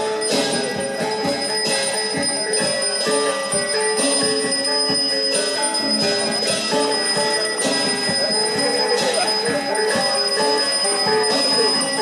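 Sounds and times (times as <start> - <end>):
high bell-like ringing: 0.0 - 12.0
metallophones playing melody: 0.0 - 12.0.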